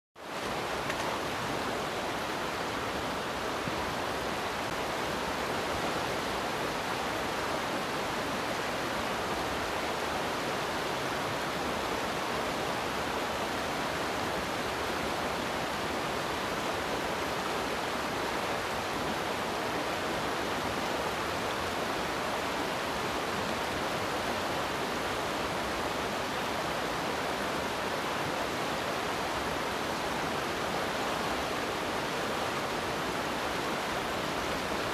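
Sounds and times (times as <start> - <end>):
river water rushing over rocks: 0.2 - 34.9.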